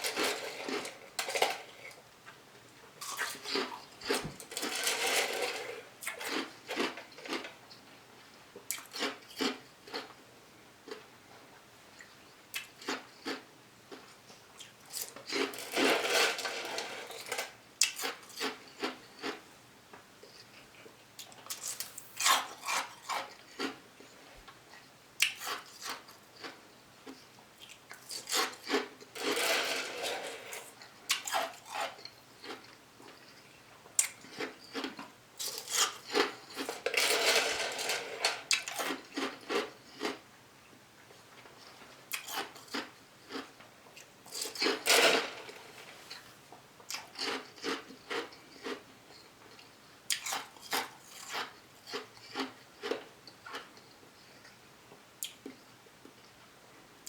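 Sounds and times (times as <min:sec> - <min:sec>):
person chewing and crunching food: 0:00.0 - 0:02.0, 0:03.0 - 0:07.8, 0:08.6 - 0:10.2, 0:10.8 - 0:11.1, 0:12.0 - 0:19.5, 0:20.2 - 0:40.3, 0:41.4 - 0:54.6.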